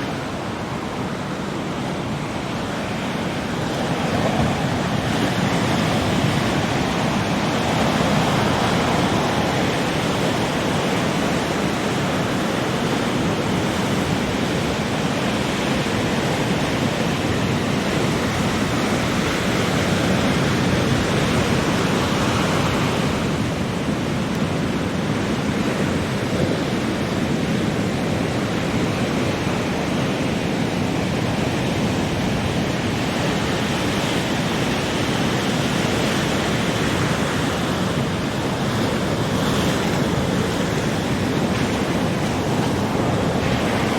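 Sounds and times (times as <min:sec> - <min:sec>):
ocean waves washing: 0:00.0 - 0:43.9.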